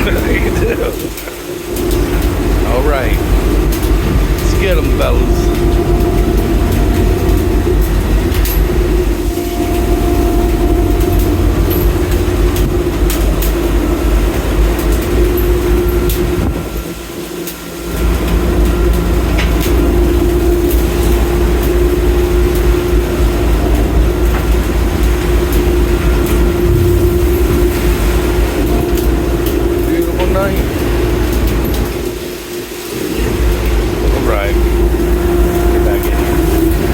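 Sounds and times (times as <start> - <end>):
boat machinery rumbling: 0.0 - 36.9.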